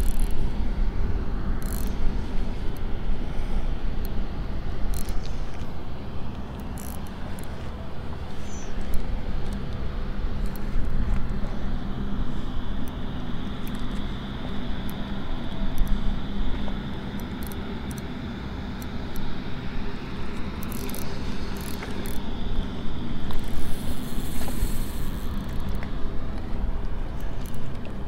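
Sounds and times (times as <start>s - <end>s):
distant engine hum: 0.0s - 28.0s
outdoor background noise: 0.0s - 28.0s.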